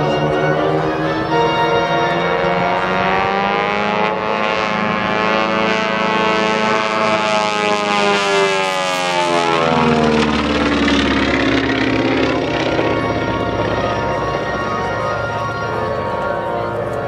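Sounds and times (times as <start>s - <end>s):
plane flying overhead: 0.0s - 17.0s.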